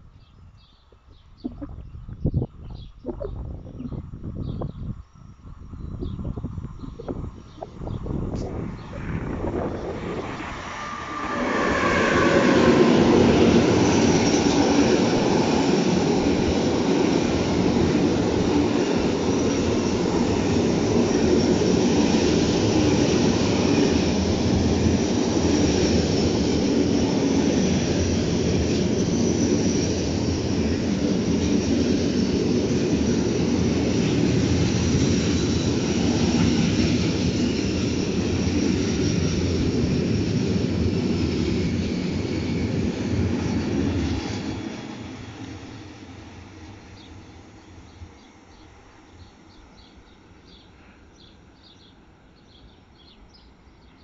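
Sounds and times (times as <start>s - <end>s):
electric locomotive whine: 3.4s - 54.0s
train wheels rumbling on rail: 4.0s - 52.8s.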